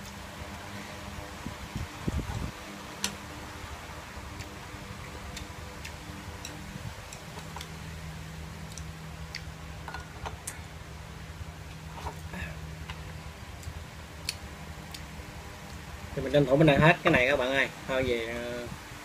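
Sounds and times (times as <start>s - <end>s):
electric fan humming: 0.0s - 19.0s.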